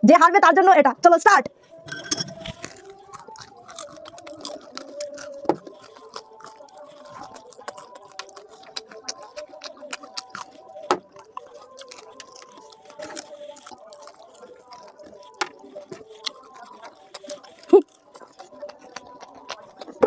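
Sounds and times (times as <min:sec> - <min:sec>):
people chewing crunchy food: 0:01.5 - 0:20.0.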